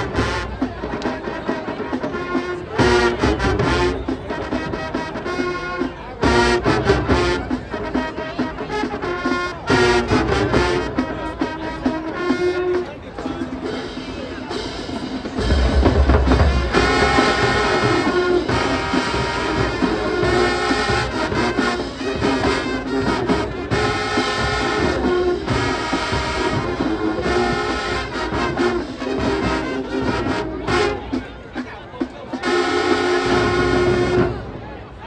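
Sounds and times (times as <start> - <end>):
marching band playing: 0.0 - 35.0.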